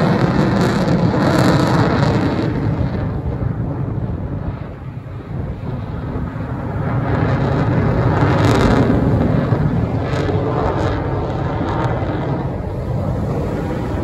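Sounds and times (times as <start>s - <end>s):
aircraft engine rumbling past: 0.0s - 14.0s.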